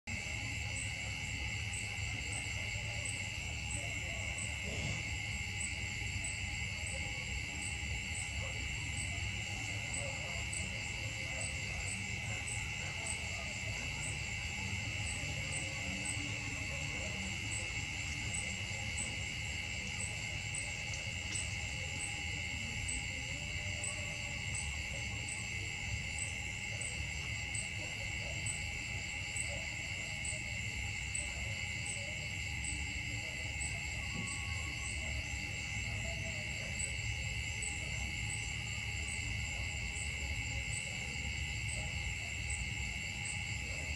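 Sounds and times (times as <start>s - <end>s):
forest insects droning: 0.1s - 43.9s
pulsing insect call: 0.1s - 43.9s.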